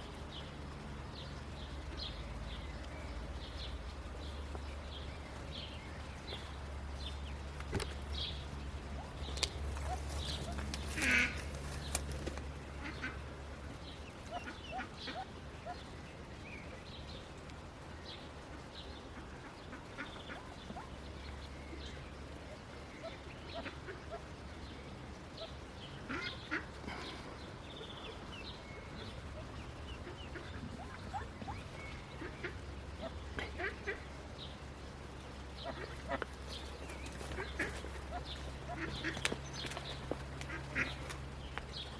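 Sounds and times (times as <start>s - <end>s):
ducklings peeping: 0.0s - 17.3s, 18.0s - 41.9s
steady low hum: 0.0s - 41.9s.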